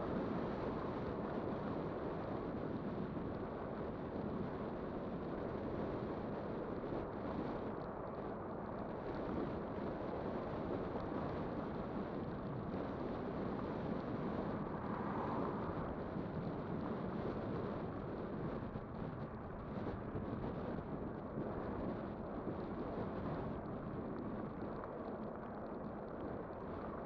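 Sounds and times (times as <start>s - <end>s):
electric bike rolling noise: 0.0s - 27.0s
wind rushing over microphone: 0.0s - 27.0s.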